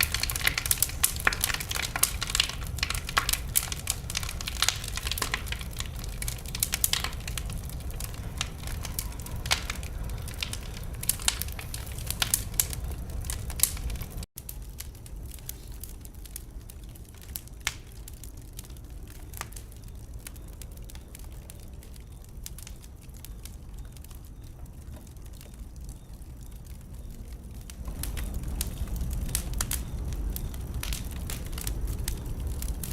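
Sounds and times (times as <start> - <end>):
low rumble: 0.0 - 32.9
wood fire crackling and popping: 0.0 - 32.9.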